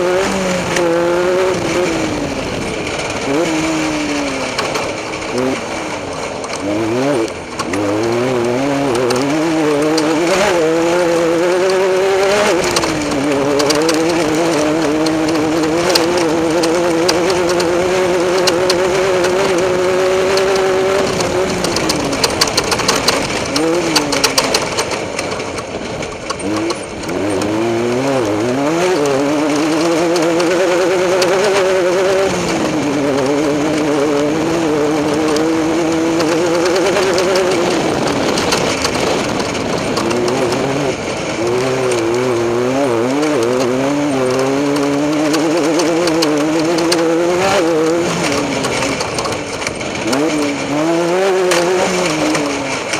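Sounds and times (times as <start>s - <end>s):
engine knocks and bangs: 0.0s - 52.9s
race engine revving: 0.0s - 52.9s.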